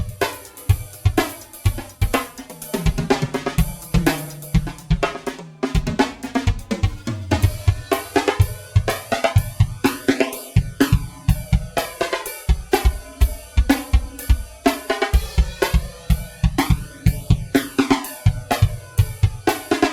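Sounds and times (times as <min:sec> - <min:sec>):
rock drum kit drumroll: 0:00.0 - 0:19.9.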